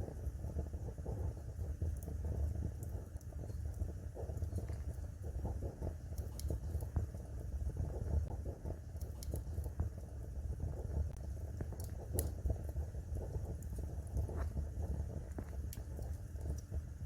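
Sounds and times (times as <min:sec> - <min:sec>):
burning wood popping: 0:00.0 - 0:17.0
flames rumbling: 0:00.0 - 0:17.0
wood fire crackling: 0:00.0 - 0:17.0.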